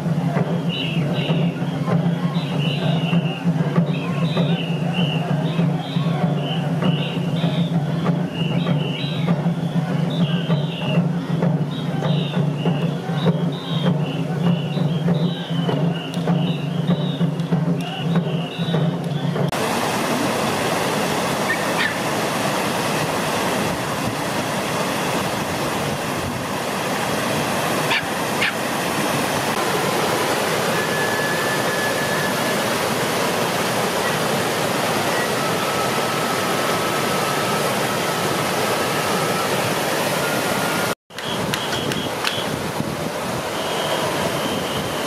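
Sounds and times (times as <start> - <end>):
water rushing over weir: 0.0 - 45.0.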